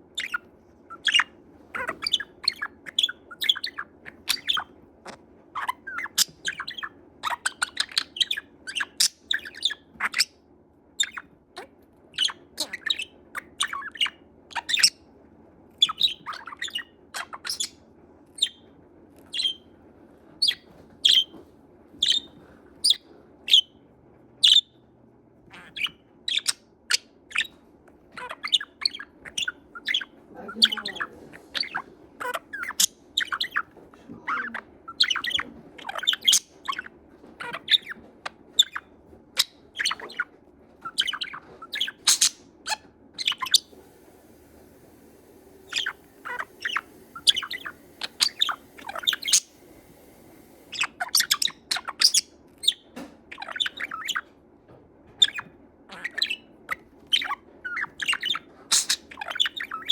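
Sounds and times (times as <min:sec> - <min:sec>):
budgerigar chirping and chattering: 0:00.1 - 0:10.4, 0:11.0 - 0:15.0, 0:15.8 - 0:18.6, 0:19.3 - 0:19.7, 0:20.4 - 0:21.4, 0:22.0 - 0:23.7, 0:24.4 - 0:24.7, 0:25.5 - 0:54.3, 0:55.1 - 0:59.9.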